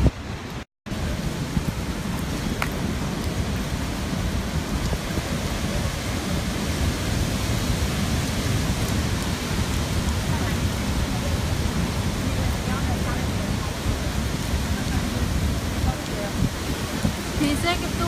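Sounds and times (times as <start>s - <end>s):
strong wind and rain: 0.0s - 18.0s.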